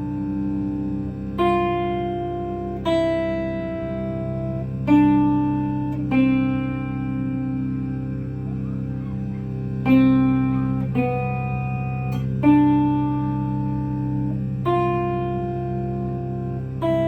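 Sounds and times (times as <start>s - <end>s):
cello drone: 0.0s - 17.0s
electric guitar plucked notes: 0.0s - 17.0s.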